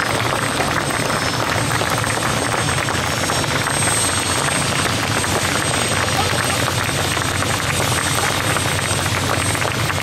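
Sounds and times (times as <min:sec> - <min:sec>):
helicopter rotors chopping: 0:00.0 - 0:10.0.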